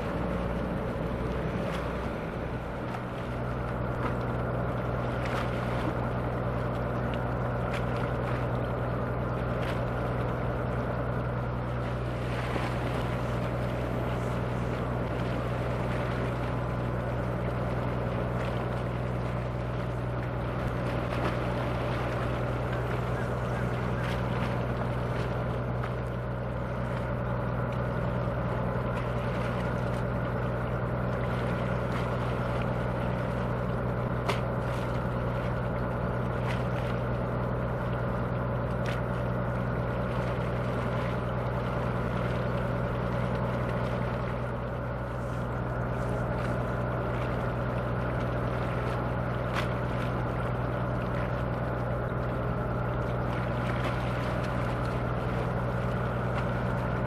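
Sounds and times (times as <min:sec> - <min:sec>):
diesel machinery humming: 0:00.0 - 0:57.0.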